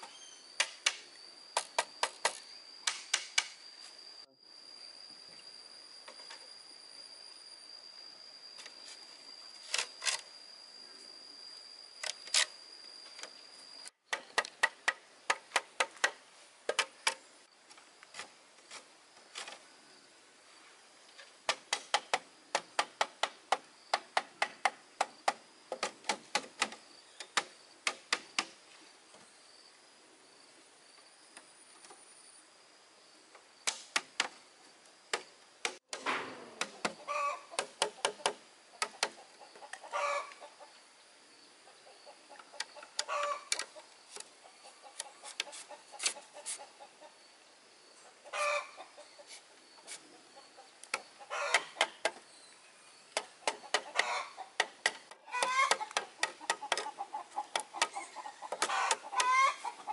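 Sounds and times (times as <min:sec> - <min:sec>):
high insect whine: 0:00.0 - 0:59.9.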